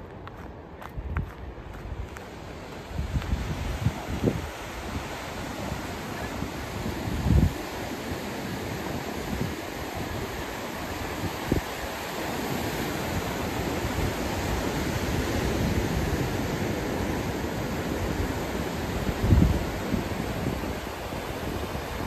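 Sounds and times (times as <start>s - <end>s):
wind buffeting microphone: 0.0s - 22.0s
surf breaking on rocky beach: 2.2s - 22.0s.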